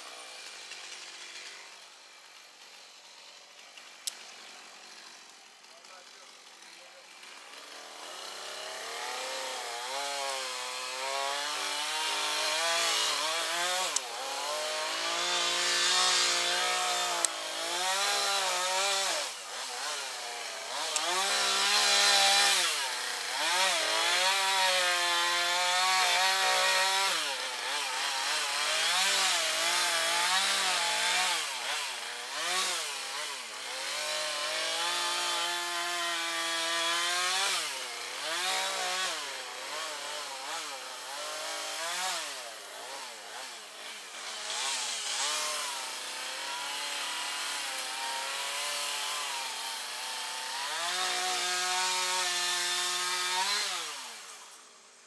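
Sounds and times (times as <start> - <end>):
chainsaw revving and cutting: 0.0 - 55.0.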